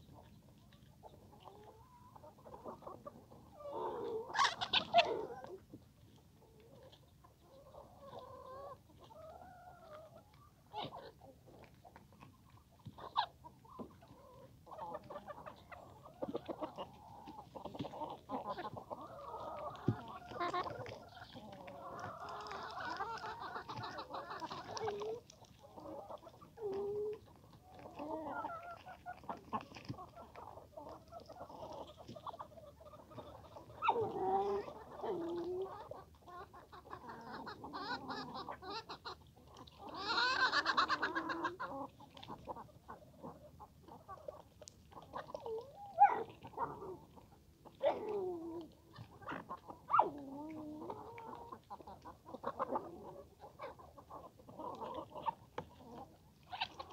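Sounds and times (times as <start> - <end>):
chickens clucking and calling: 0.0 - 56.9.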